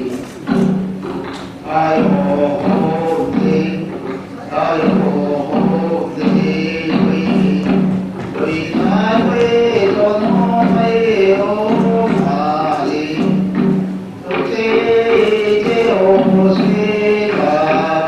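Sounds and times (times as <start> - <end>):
men singing a folk chant: 1.6 - 13.4, 14.3 - 18.0.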